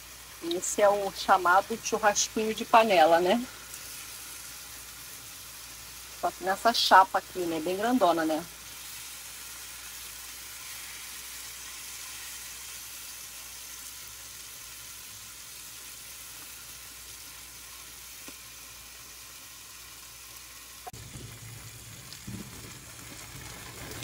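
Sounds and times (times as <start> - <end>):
meat sizzling on griddle: 0.0 - 24.0.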